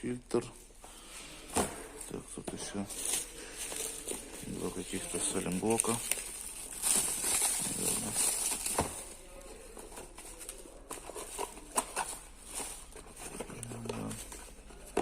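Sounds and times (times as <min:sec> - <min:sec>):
packaging rustling and crinkling: 0:00.9 - 0:15.0.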